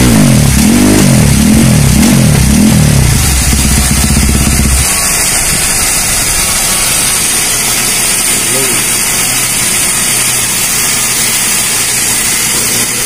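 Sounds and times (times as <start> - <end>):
engine idling: 0.0 - 13.0
motorcycle engine revving: 0.0 - 13.0
steady rushing noise: 0.0 - 13.0.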